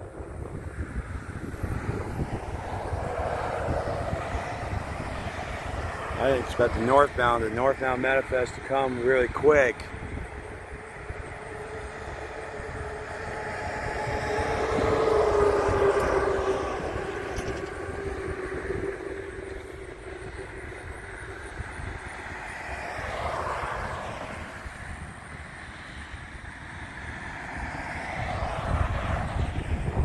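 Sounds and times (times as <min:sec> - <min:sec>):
falling whine: 0:00.0 - 0:30.0
passing vehicles droning: 0:00.0 - 0:30.0.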